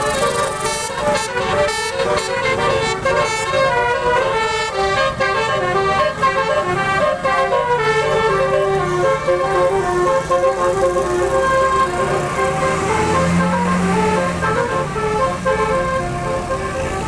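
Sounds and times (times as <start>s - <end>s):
multi-trumpet horn melody: 0.0s - 17.0s.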